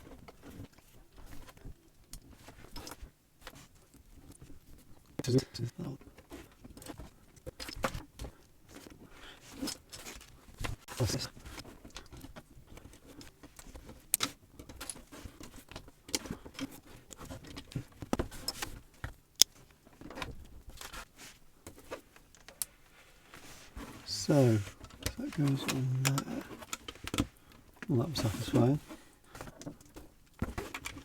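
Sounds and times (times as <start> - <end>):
soft rustling: 6.0 - 31.0.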